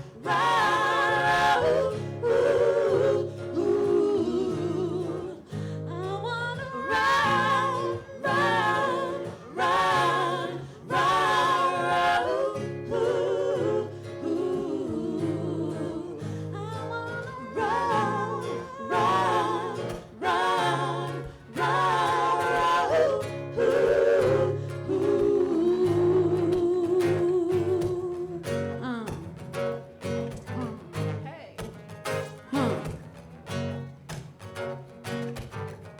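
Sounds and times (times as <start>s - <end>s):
vocal group singing in harmony: 0.0s - 31.2s, 32.1s - 34.3s.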